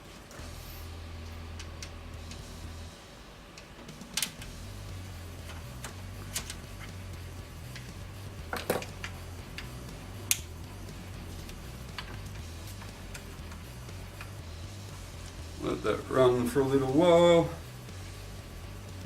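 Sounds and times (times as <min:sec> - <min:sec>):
computer fans humming: 0:00.0 - 0:19.0.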